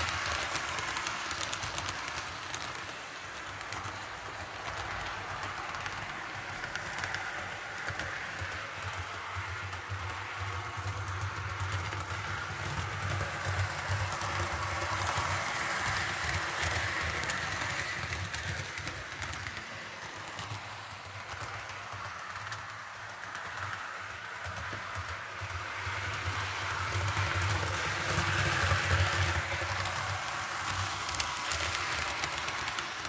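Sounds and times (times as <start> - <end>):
model train wheels rumbling on track: 0.0 - 33.0.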